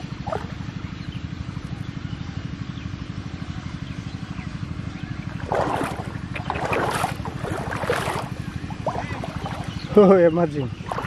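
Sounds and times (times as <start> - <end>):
small engine throbbing: 0.0 - 11.0.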